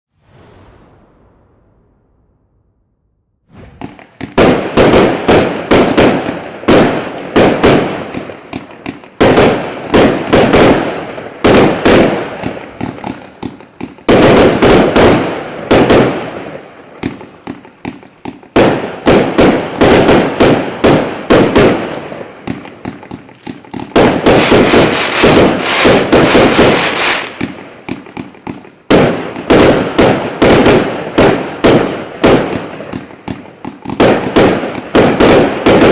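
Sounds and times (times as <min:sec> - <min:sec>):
firework shots and crackling: 0:00.1 - 0:35.9.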